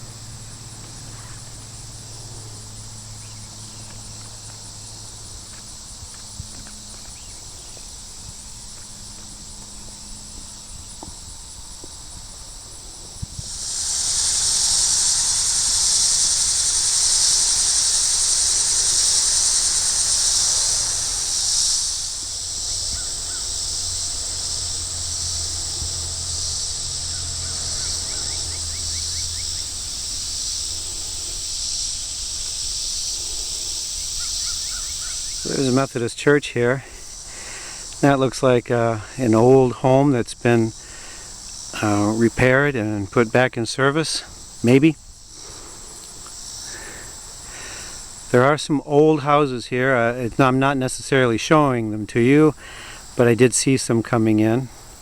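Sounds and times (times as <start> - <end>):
insects chirping and buzzing: 0.0 - 55.0.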